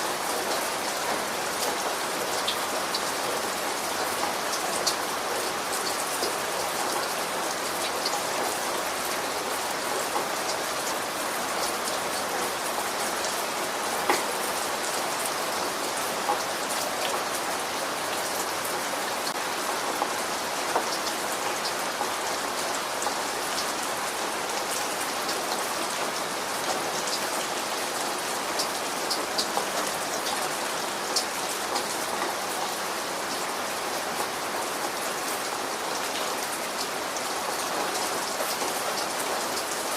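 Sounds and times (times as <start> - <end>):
raindrops hitting a surface: 0.0 - 39.9
steady rain falling: 0.0 - 39.9.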